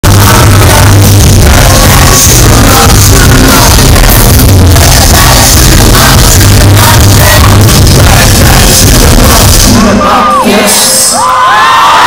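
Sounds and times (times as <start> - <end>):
heavy bass: 0.0 - 11.3
drums: 0.0 - 12.0
singer: 0.0 - 12.0.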